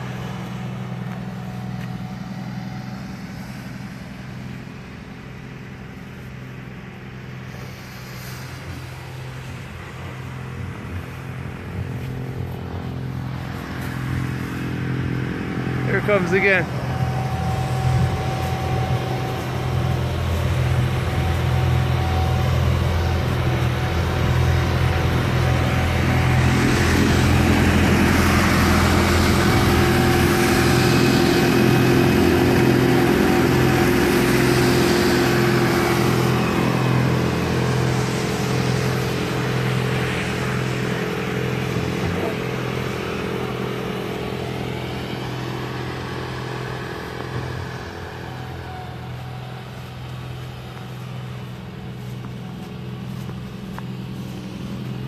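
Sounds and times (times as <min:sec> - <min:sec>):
snow blower churning snow: 0:00.0 - 0:55.0
tractor diesel engine running: 0:00.0 - 0:55.0.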